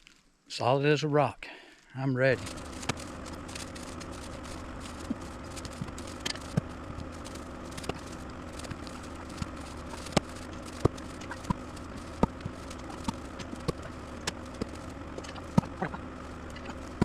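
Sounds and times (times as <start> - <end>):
engine idling: 2.2 - 17.0.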